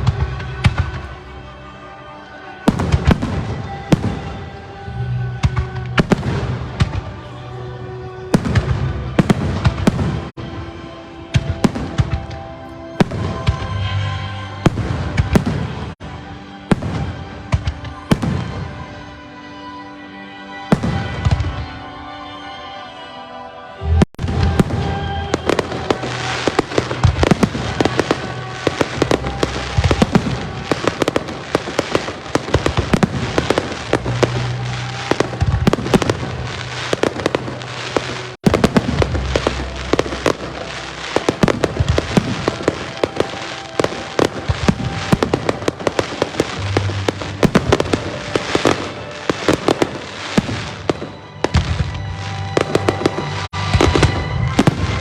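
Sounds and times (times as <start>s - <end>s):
fireworks bangs and crackling: 0.0s - 1.4s, 2.6s - 19.2s, 20.7s - 21.8s, 23.9s - 55.0s
music: 0.0s - 55.0s.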